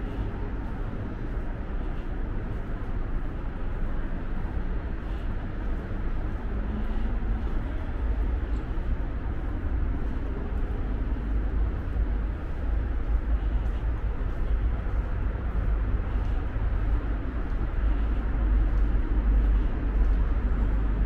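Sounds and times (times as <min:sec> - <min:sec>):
city street background noise: 0:00.0 - 0:21.0
deep rumble: 0:00.0 - 0:21.0.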